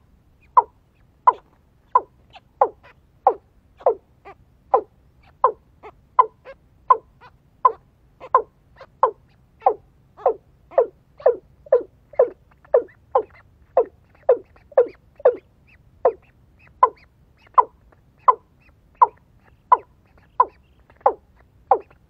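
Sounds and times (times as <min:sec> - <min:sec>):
fowl-like bird calling: 0:00.4 - 0:22.0.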